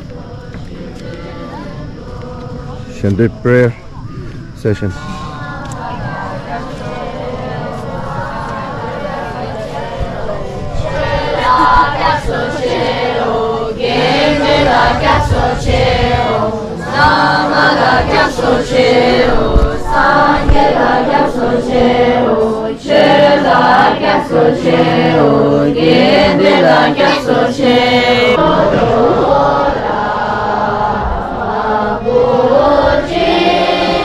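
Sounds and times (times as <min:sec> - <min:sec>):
group chanting a prayer: 0:00.0 - 0:34.0.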